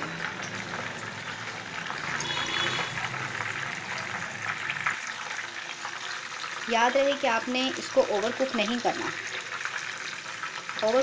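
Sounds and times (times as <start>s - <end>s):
oil sizzling and crackling: 0.0s - 11.0s.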